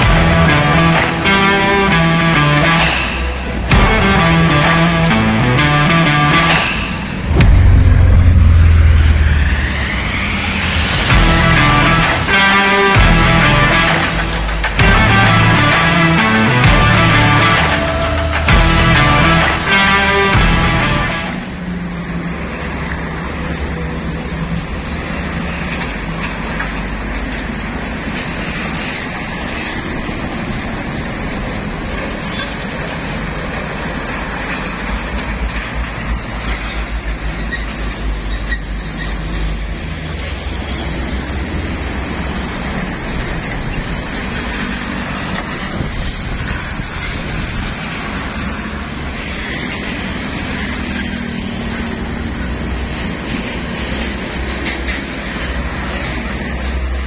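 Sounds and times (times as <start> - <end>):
road traffic rumble: 0.0 - 57.0
truck passing close: 0.0 - 57.0.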